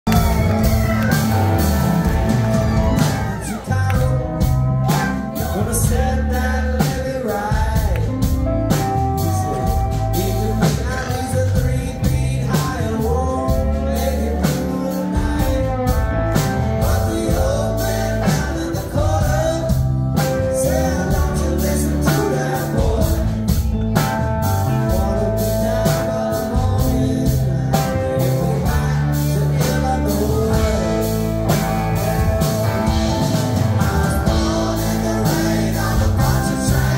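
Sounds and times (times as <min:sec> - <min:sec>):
bass guitar: 0:00.0 - 0:36.9
drums: 0:00.0 - 0:36.9
keyboard: 0:00.0 - 0:36.9
electric guitars: 0:00.1 - 0:36.9.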